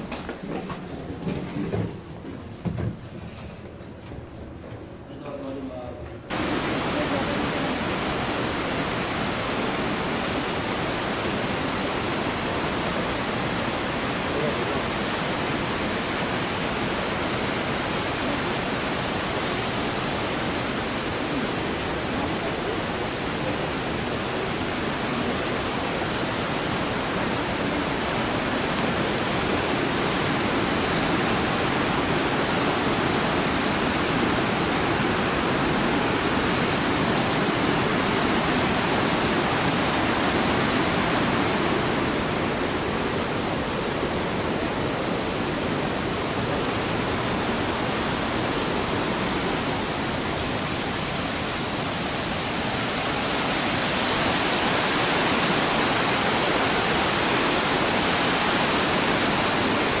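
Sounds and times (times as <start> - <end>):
waterfall rushing: 6.3 - 60.0.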